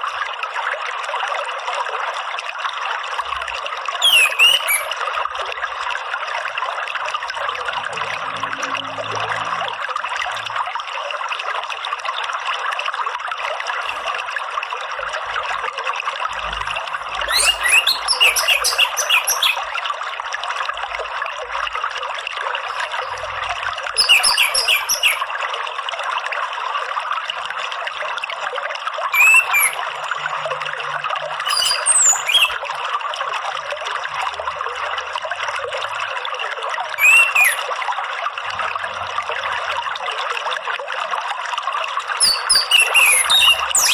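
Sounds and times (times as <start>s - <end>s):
water trickling: 0.0s - 43.9s.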